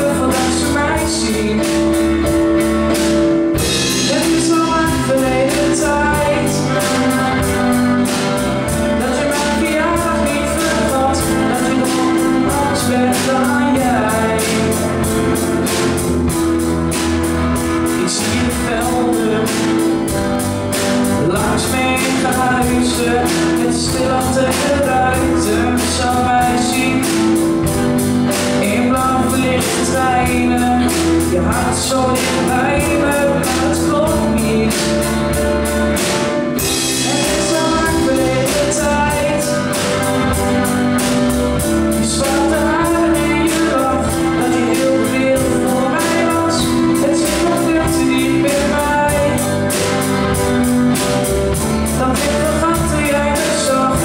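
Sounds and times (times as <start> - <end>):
boy singing a pop ballad: 0.0 - 16.0, 17.5 - 54.0
live band playing: 0.0 - 54.0
steady drum beat: 0.0 - 54.0.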